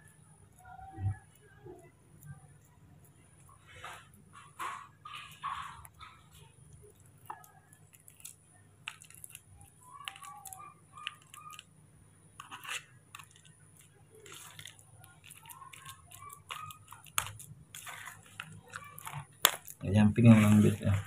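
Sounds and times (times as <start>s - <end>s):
spoon scraping and squelching food: 0.0s - 21.0s.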